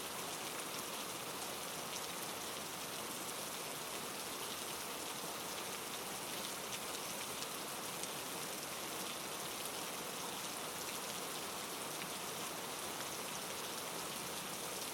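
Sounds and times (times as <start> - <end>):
steady rain hiss: 0.0 - 14.9.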